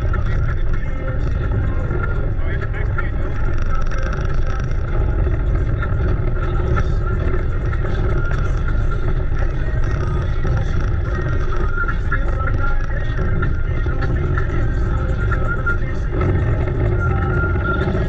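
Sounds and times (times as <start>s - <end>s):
car engine rumble: 0.0s - 18.0s
road and wind noise: 0.0s - 18.0s.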